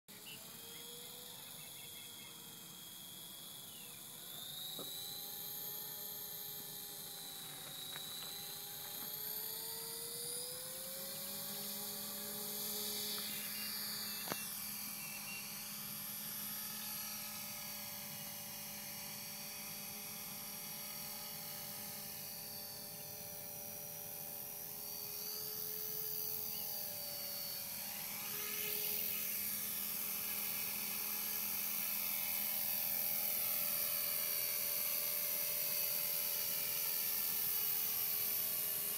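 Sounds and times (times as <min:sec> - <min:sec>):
rc helicopter motor whining: 0:00.1 - 0:38.9.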